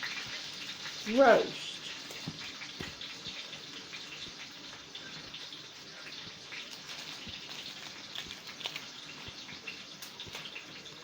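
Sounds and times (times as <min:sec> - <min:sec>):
kitchen tap running: 0:00.0 - 0:11.0.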